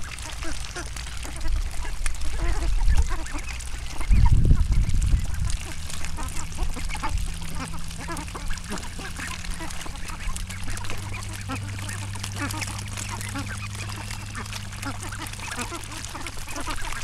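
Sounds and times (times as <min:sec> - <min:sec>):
ducks dabbling in water: 0:00.0 - 0:17.0
low rumble: 0:00.0 - 0:17.0
soft duck quacks: 0:00.0 - 0:17.0.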